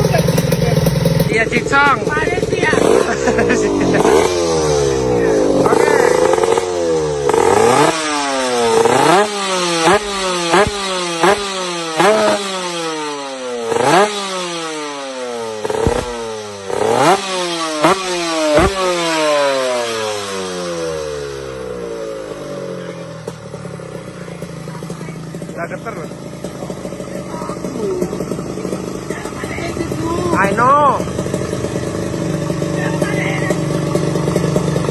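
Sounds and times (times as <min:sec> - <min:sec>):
motorcycle engine throttle blips: 0:00.0 - 0:34.9.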